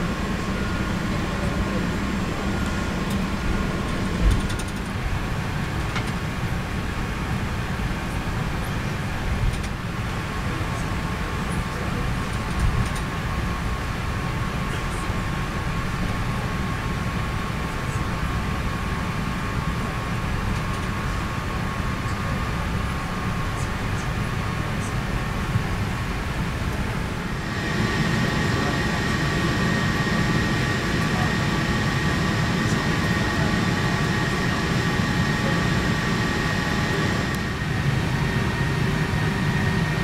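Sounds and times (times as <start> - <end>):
airliner cabin rumble and hum: 0.0 - 40.0.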